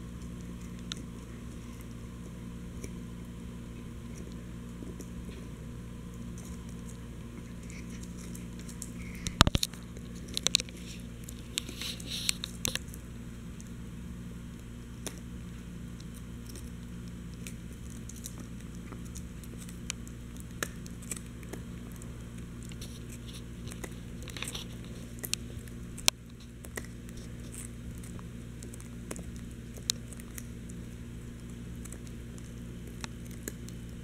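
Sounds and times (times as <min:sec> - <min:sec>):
puppy gnawing rawhide chew: 0:00.0 - 0:34.0
steady low hum: 0:00.0 - 0:34.0.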